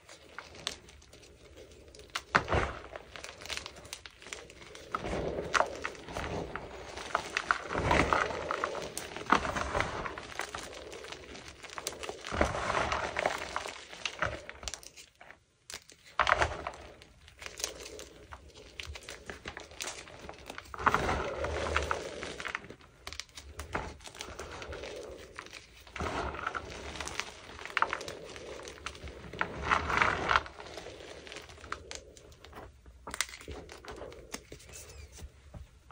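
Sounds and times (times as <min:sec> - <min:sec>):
hands crushing chalk: 0:00.0 - 0:35.9.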